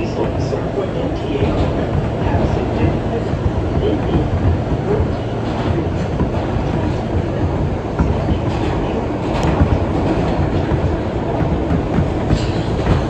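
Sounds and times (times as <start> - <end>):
clicks over rail joints: 0.0 - 13.0
subway wheels rumbling on rail: 0.0 - 13.0.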